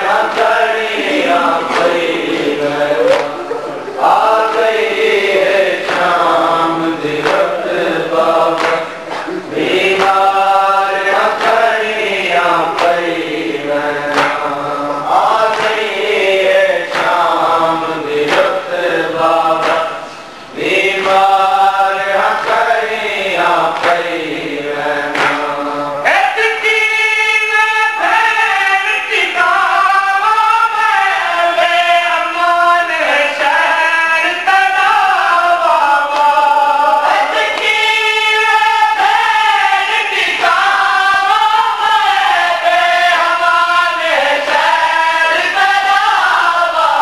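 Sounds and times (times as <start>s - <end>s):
crowd chanting: 0.0s - 28.4s, 31.7s - 47.0s
men chanting a lament: 0.0s - 47.0s.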